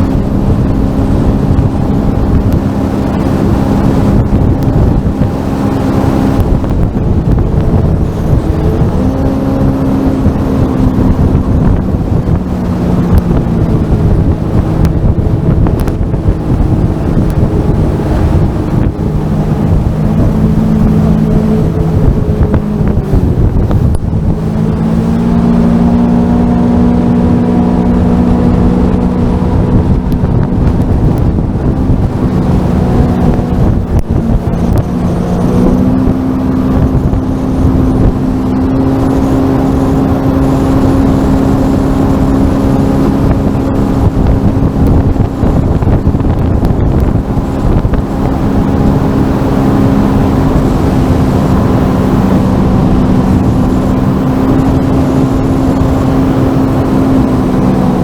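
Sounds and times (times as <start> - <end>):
jet ski engine running: 0.0 - 58.0
wind buffeting microphone: 0.0 - 58.0.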